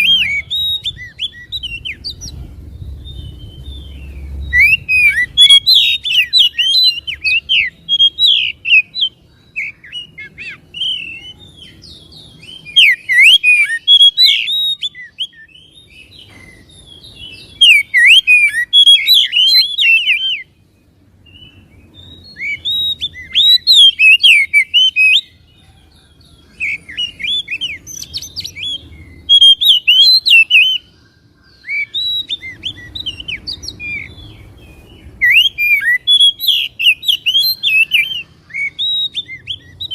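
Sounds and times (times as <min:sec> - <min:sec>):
bird singing whistled phrases: 0:00.0 - 0:20.6, 0:21.3 - 0:39.9.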